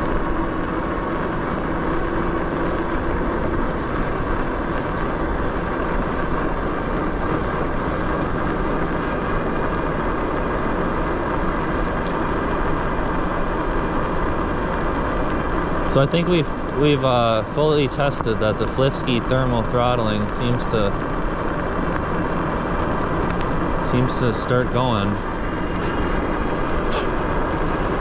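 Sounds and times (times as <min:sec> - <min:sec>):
faint steady whine: 0:00.0 - 0:28.0
wind and tyre noise: 0:00.0 - 0:28.0.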